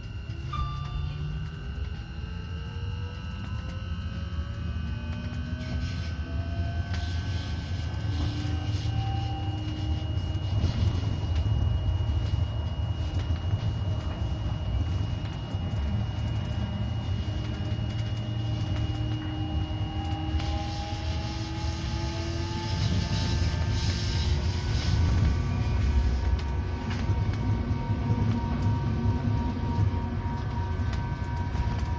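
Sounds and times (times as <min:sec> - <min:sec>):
high whine: 0:00.0 - 0:31.9
rising whining tones: 0:00.0 - 0:31.9
rumble of wheels on rail: 0:00.0 - 0:31.9.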